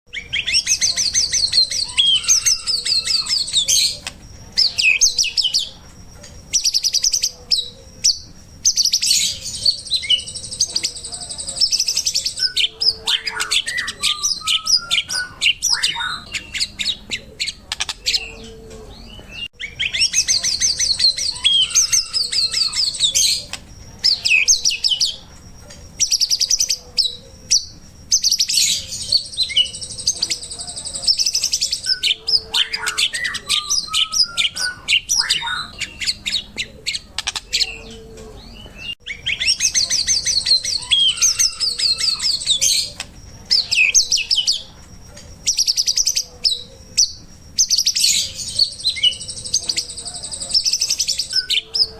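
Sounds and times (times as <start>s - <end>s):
songbird trilling and whistling: 0.1s - 51.9s.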